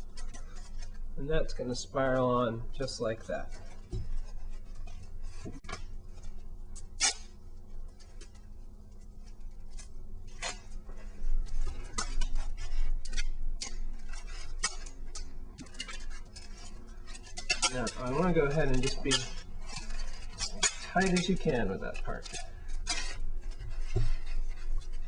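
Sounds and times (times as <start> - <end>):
tape and foam crackling clicks: 0.0 - 25.0.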